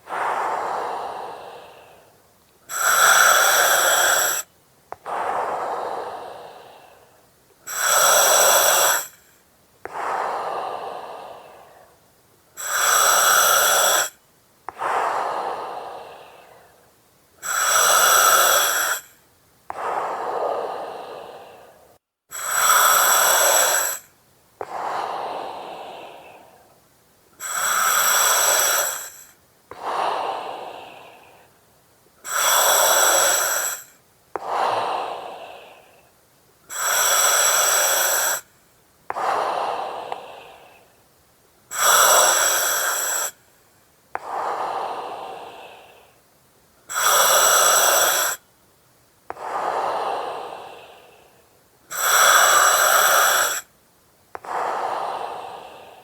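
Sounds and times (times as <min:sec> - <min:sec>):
breathing through oxygen mask: 0:00.0 - 0:12.0, 0:12.6 - 0:16.8, 0:17.4 - 0:26.8, 0:27.4 - 0:31.6, 0:32.2 - 0:36.1, 0:36.7 - 0:38.5, 0:39.1 - 0:40.9, 0:41.7 - 0:43.4, 0:44.2 - 0:46.2, 0:46.9 - 0:48.4, 0:49.3 - 0:53.7, 0:54.4 - 0:56.0.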